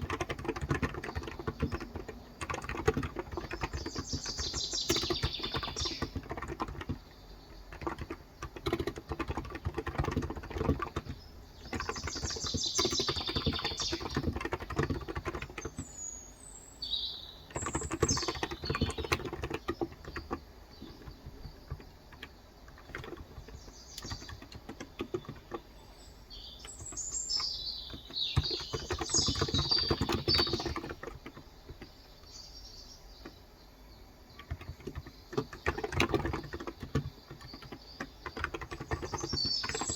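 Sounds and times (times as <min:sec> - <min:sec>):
soft keyboard typing: 0:00.0 - 0:16.1, 0:17.5 - 0:32.4, 0:34.3 - 0:39.9
small birds twittering: 0:00.0 - 0:39.9.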